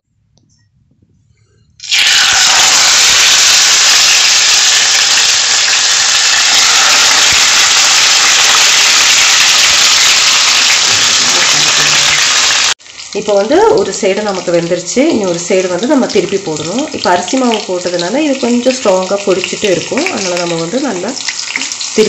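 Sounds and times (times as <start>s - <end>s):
fish sizzling in hot oil: 1.8s - 22.0s.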